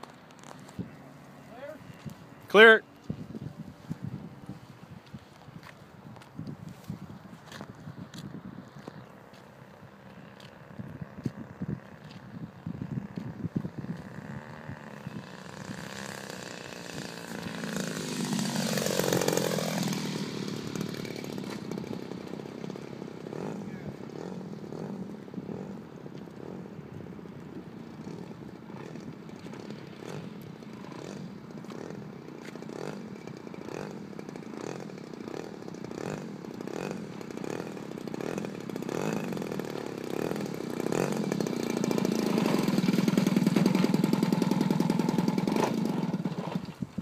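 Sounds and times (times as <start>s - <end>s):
model airplane engine: 8.8s - 47.0s.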